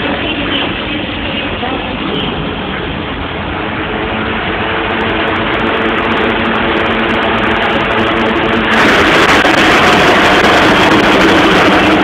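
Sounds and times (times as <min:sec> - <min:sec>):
dense noisy wash: 0:00.0 - 0:12.0
motocross motorcycle engines: 0:00.0 - 0:12.0.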